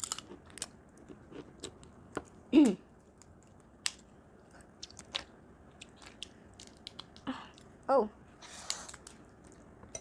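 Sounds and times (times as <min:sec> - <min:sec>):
people chewing food: 0:00.0 - 0:10.0.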